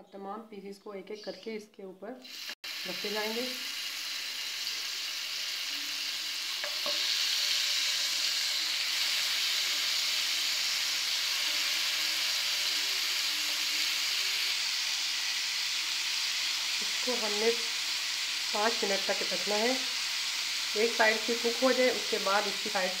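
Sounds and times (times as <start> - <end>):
chicken sizzling on a hot pan: 2.3 - 23.0.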